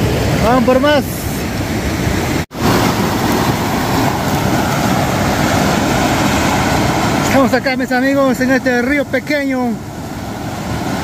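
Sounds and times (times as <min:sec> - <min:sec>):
rushing mountain stream: 0:00.0 - 0:11.0.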